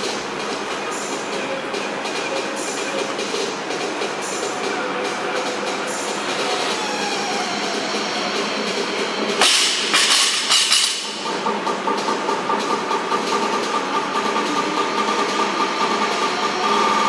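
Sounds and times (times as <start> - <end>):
steady mechanical drone: 0.0 - 17.0.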